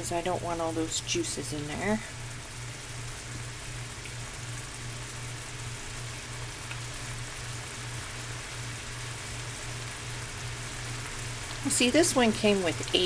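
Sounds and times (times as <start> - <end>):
chicken sizzling in a pan: 0.0 - 13.0
low steady hum: 0.0 - 13.0.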